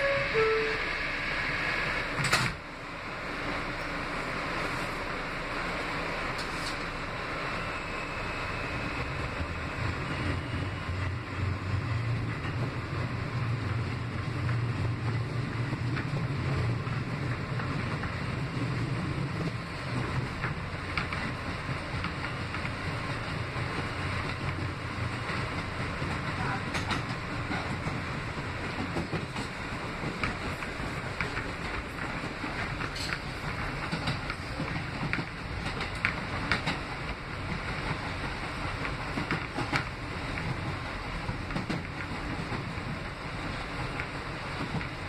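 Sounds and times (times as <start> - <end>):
train rumbling on track: 0.0 - 45.0.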